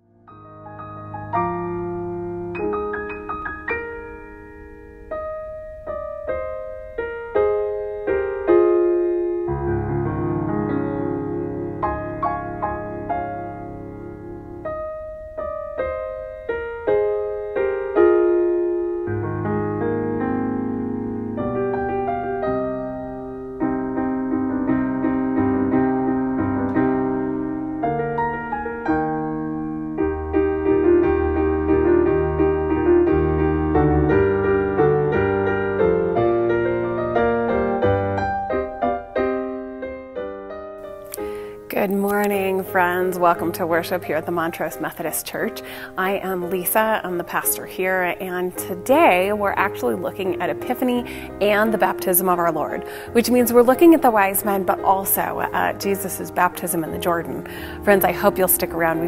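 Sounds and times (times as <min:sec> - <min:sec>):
slow gentle piano music: 0:00.0 - 0:59.0.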